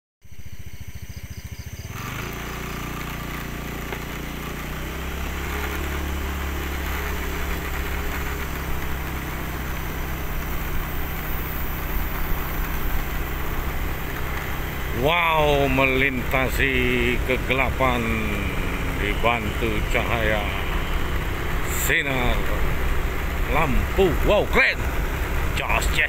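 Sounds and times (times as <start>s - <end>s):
vehicle engine running: 0.2s - 26.0s
road and wind noise: 0.3s - 26.0s.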